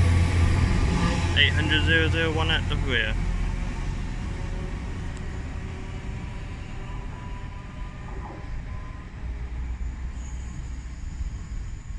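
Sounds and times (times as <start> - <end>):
train pulling away rumbling: 0.0 - 11.9.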